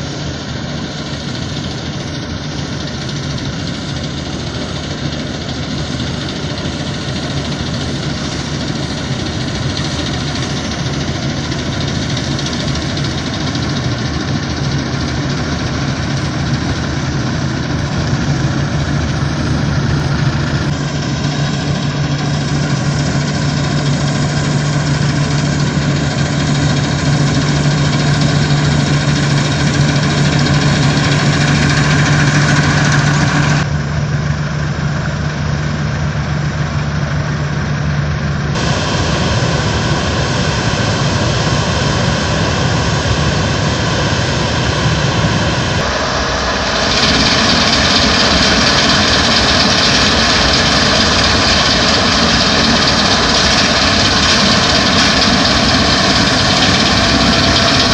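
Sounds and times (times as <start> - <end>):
combine harvesters droning: 0.0 - 57.9
truck engine running: 0.0 - 57.9.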